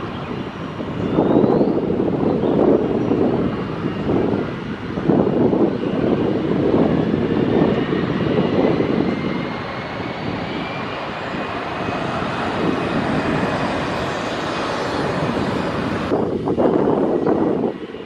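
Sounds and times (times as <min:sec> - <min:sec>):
jet engines rumbling with whine: 0:00.0 - 0:18.0.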